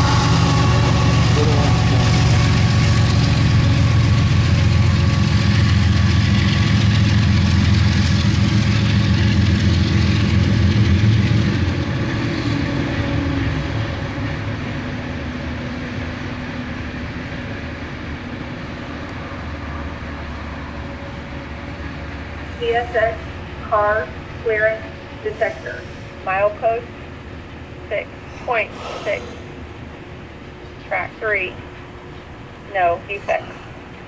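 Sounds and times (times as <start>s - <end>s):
diesel locomotive engine drone: 0.0s - 34.0s
train rolling noise: 0.0s - 34.0s.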